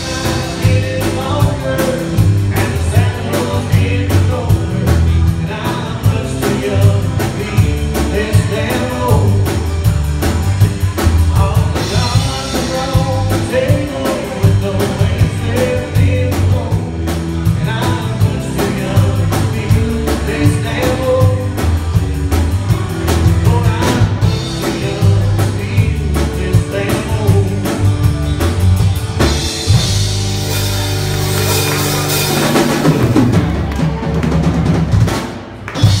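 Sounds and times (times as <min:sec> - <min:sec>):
live country-rock band playing: 0:00.0 - 0:36.0.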